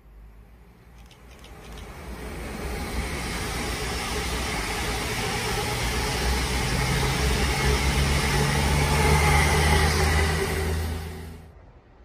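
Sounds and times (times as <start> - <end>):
train engine drone: 0.0 - 12.0
train wheels rumbling on rails: 0.9 - 11.6.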